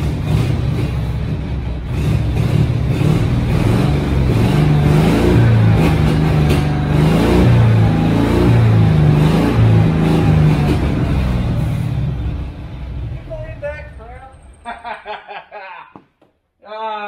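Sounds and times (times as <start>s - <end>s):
engine revving: 0.0s - 14.5s.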